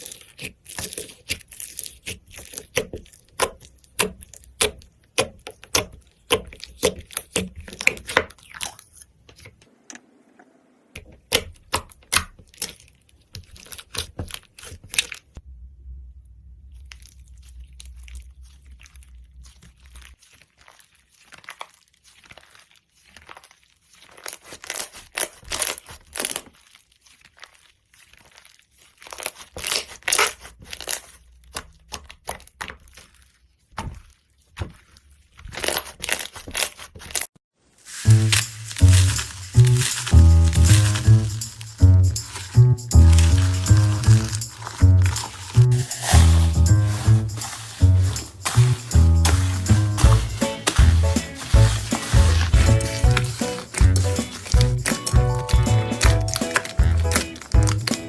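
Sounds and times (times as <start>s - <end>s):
slime crackling and popping: 0.0s - 9.5s, 16.7s - 58.0s.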